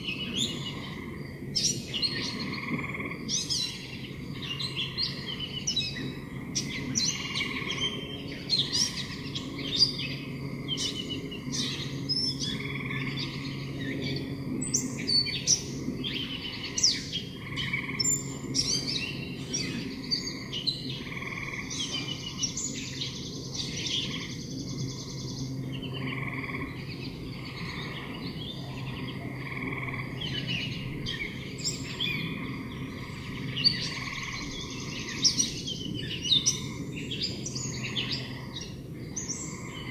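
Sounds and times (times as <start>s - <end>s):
small birds chirping and trilling: 0.0s - 39.9s
steady low hum: 0.0s - 39.9s.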